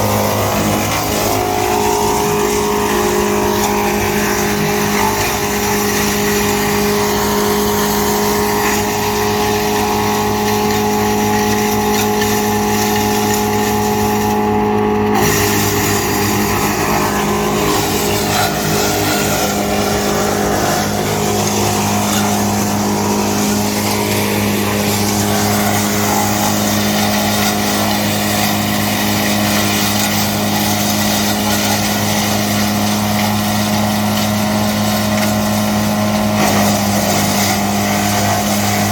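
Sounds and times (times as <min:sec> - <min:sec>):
woodchipper running: 0:00.0 - 0:38.9.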